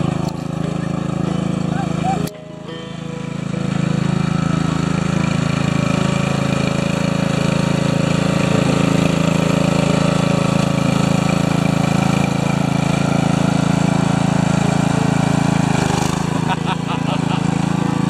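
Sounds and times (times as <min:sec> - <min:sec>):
riding lawn tractor engine running: 0:00.0 - 0:18.0.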